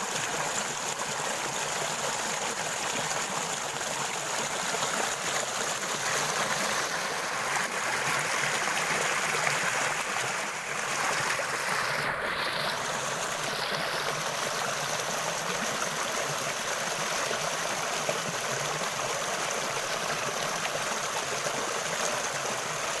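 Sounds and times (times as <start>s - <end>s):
water flowing: 0.0s - 23.0s.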